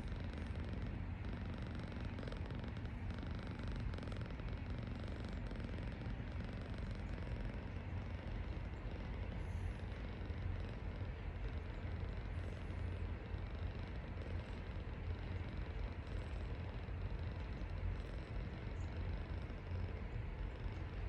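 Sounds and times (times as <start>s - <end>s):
cat snoring: 0.0s - 21.0s.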